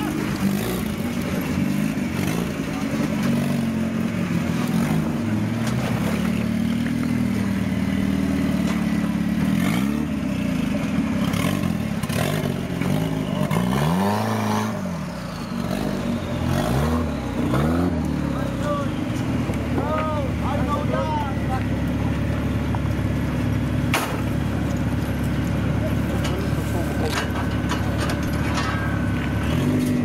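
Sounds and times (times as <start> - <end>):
buggy engine revving under load: 0.0 - 30.0.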